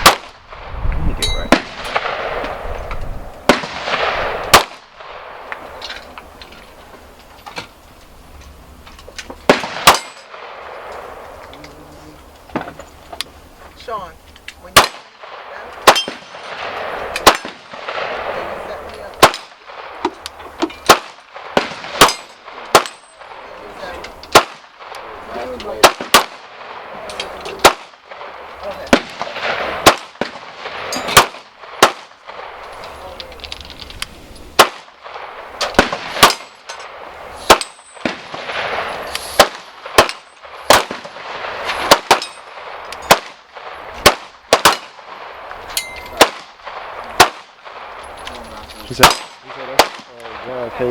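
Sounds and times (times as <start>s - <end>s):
gunshots: 0.0s - 0.7s, 1.4s - 5.8s, 9.4s - 11.5s, 14.6s - 33.2s, 34.4s - 50.9s.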